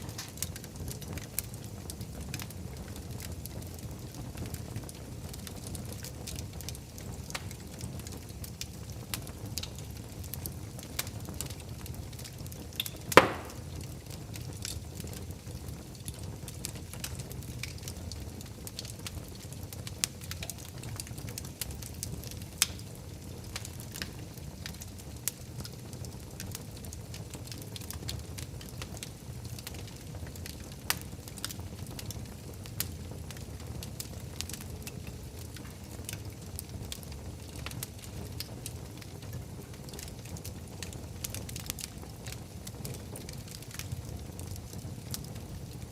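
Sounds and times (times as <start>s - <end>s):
fire pops and snaps: 0.0s - 45.9s
wood fire crackling: 0.0s - 45.9s.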